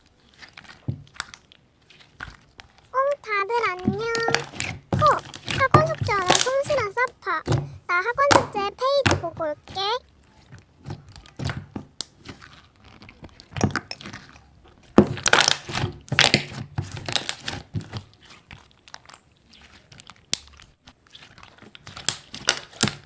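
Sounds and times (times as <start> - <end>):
slime crackling and popping: 0.0 - 7.4, 8.1 - 23.0.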